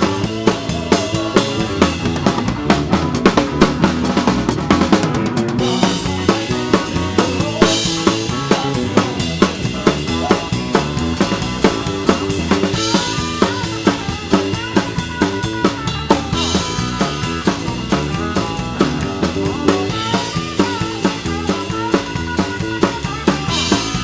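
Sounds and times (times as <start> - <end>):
bass guitar: 0.0 - 24.0
drum kit beat: 0.0 - 24.0
electric guitar: 0.0 - 24.0.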